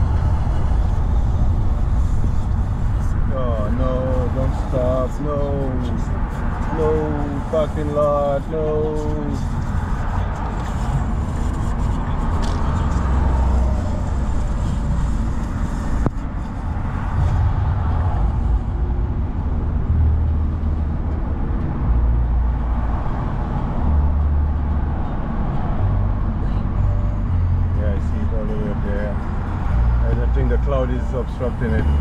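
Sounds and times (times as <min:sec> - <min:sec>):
car cabin road noise: 0:00.0 - 0:32.0.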